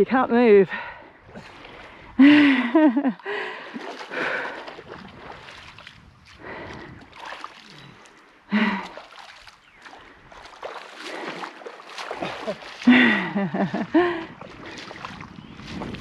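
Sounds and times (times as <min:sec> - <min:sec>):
water splashing and sloshing: 0:00.7 - 0:16.0.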